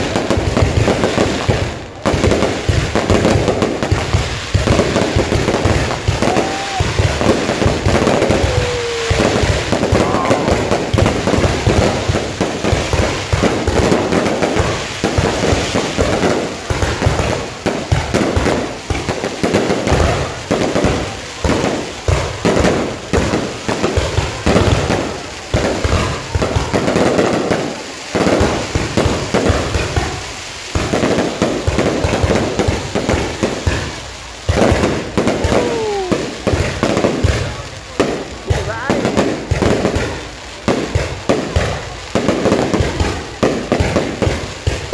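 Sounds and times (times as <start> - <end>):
firecrackers crackling and popping: 0.0 - 44.9.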